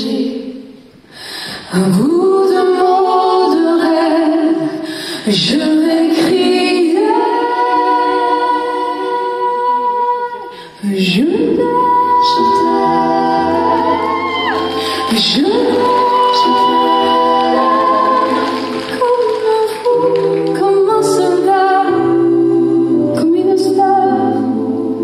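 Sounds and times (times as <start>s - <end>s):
women singing a slow ballad: 0.0s - 25.0s.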